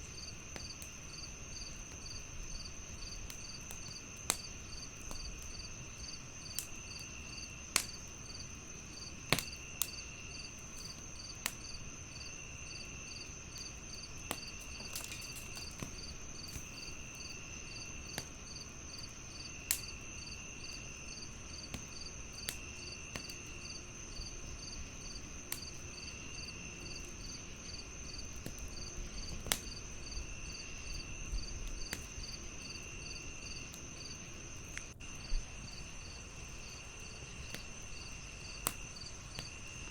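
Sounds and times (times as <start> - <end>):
cricket pulsed chirp: 0.0 - 39.9
wood fire crackling: 0.0 - 39.9.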